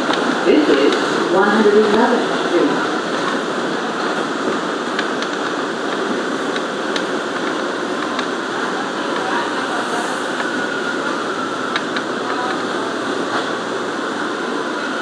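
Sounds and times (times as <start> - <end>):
subway car rumble and hiss: 0.0 - 15.0.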